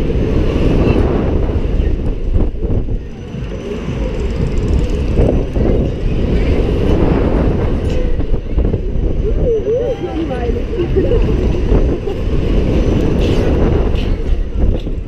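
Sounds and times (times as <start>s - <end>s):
fairground ride machinery: 0.0s - 15.0s
loud rushing wind: 0.0s - 15.0s.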